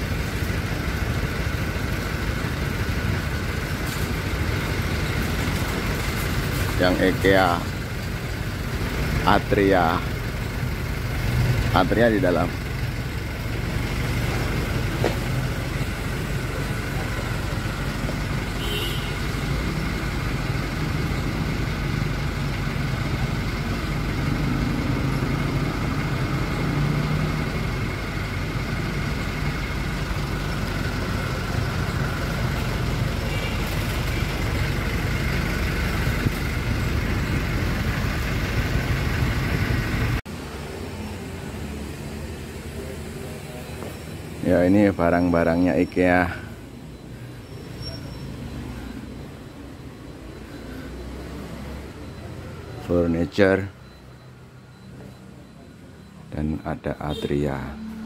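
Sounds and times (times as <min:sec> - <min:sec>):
street traffic noise: 0:00.0 - 0:58.0.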